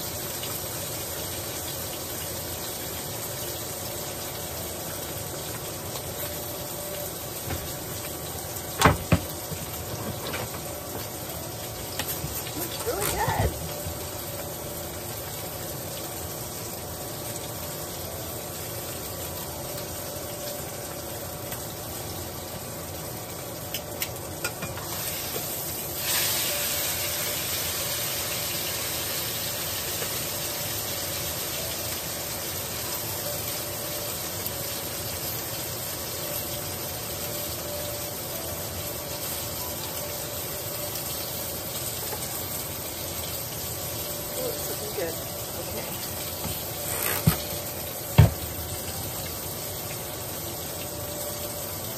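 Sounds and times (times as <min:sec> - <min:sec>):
steak sizzling in a pan: 0:00.0 - 0:51.9.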